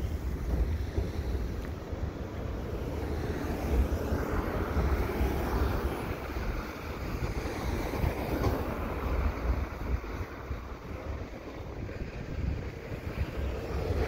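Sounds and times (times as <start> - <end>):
freight train wheels rumbling: 0.0 - 14.0
wind buffeting microphone: 0.0 - 14.0.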